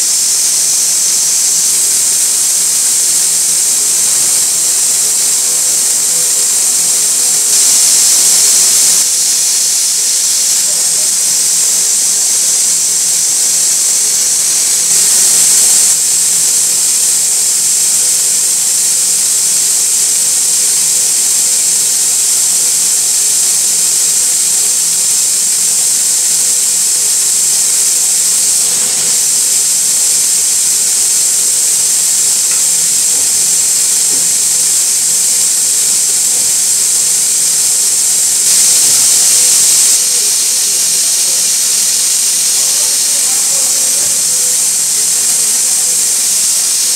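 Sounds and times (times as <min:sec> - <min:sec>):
loud air hiss: 0:00.0 - 0:46.9.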